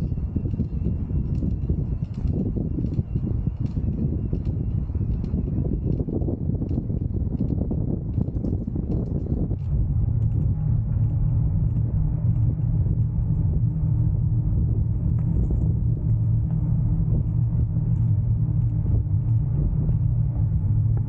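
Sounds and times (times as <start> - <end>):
bicycle tyre rumble: 0.0 - 21.0
faint steady hum: 0.0 - 21.0.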